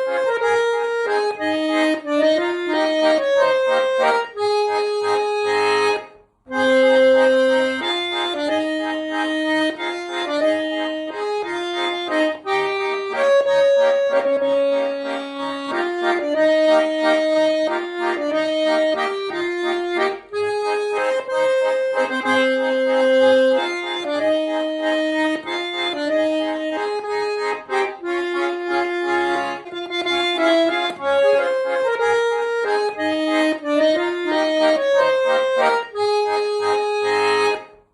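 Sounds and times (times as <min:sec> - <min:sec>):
button accordion folk tune: 0:00.0 - 0:37.9.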